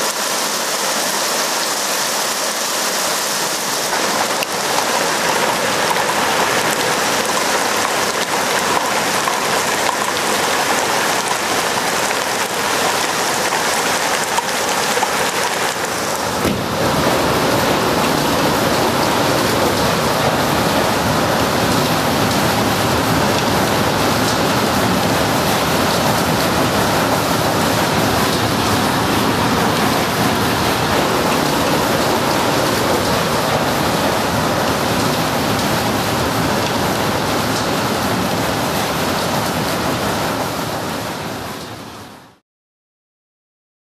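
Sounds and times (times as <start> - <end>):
hail and heavy rain: 0.0 - 41.8.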